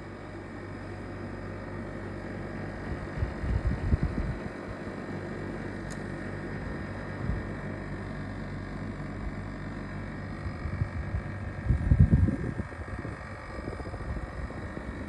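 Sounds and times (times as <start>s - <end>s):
air conditioner compressor hum: 0.0s - 15.0s.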